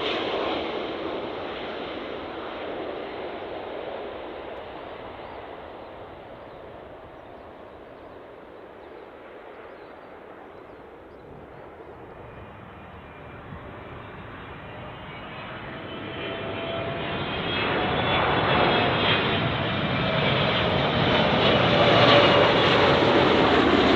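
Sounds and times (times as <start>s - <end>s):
faint jet engine whine: 0.0s - 23.9s
jet airliner engine noise: 0.0s - 23.9s.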